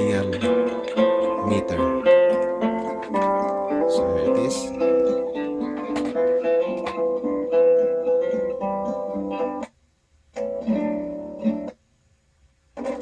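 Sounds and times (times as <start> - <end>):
guitar music through small speaker: 0.0 - 11.8.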